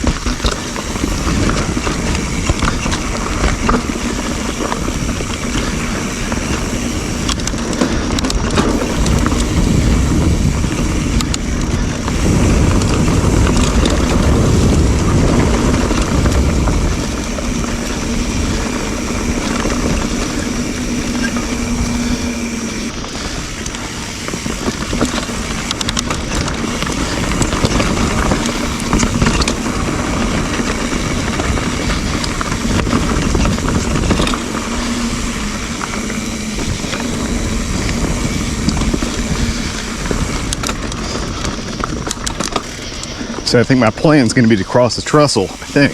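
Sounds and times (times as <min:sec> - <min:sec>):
bike knocks and rattles: 0:00.0 - 0:45.9
bike tyres rolling over dirt: 0:00.0 - 0:45.9
wind on microphone: 0:00.0 - 0:45.9.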